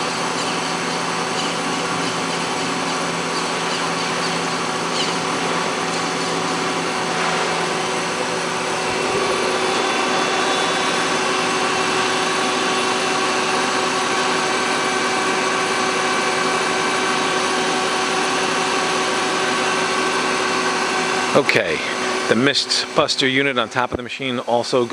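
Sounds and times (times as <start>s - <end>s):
lathe mechanical hum and whine: 0.0s - 24.9s.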